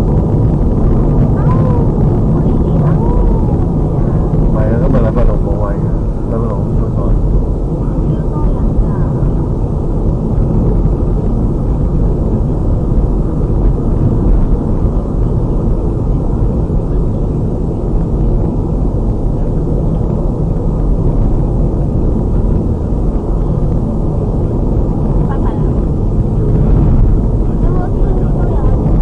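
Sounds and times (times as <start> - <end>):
car cabin road and engine rumble: 0.0 - 29.0.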